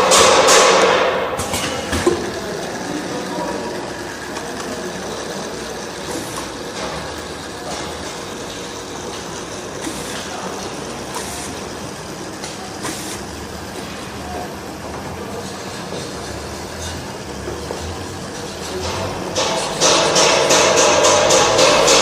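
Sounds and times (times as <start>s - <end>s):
capping machine running: 0.0s - 22.0s.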